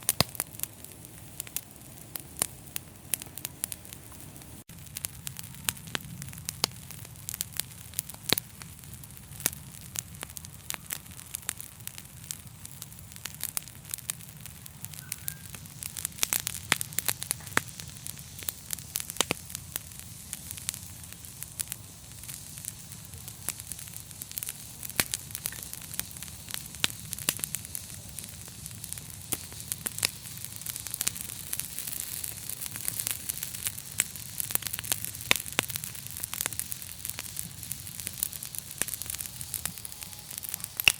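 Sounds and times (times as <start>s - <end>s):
flames hissing and rumbling: 0.0s - 40.9s
wood fire crackling and popping: 0.0s - 40.9s.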